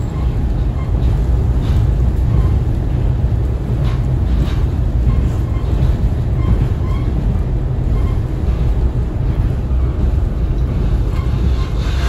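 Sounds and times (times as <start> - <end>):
railcar rumble from inside: 0.0 - 12.0.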